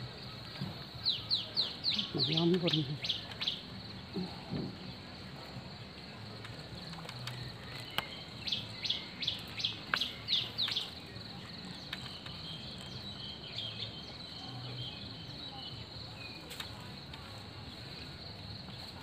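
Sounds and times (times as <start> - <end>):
bird chirping: 0.0 - 5.0, 6.6 - 18.9.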